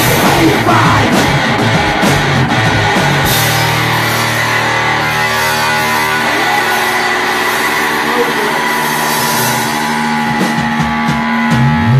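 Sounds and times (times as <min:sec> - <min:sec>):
drums hitting: 0:00.0 - 0:11.9
punk rock band playing: 0:00.0 - 0:11.9.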